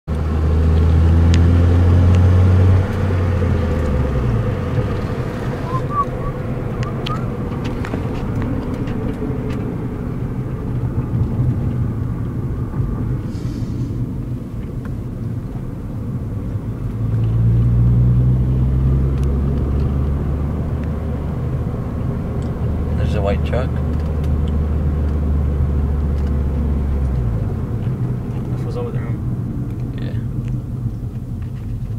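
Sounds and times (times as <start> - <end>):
car engine and tyre noise: 0.1 - 31.9.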